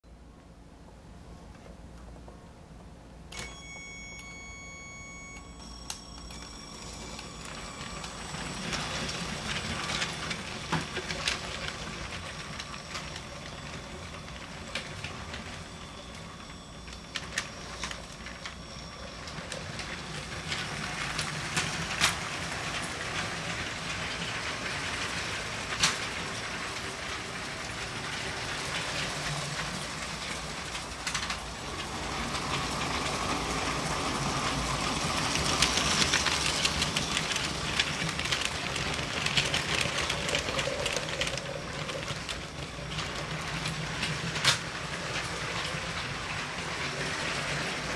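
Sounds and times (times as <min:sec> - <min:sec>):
toy train motor whirring: 0:03.4 - 0:47.9
wheels clicking over track joints: 0:06.2 - 0:47.9.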